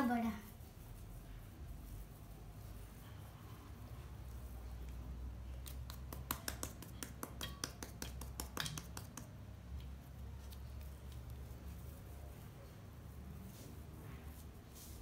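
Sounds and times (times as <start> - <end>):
hands shaping dough on metal plate: 0.0 - 15.0.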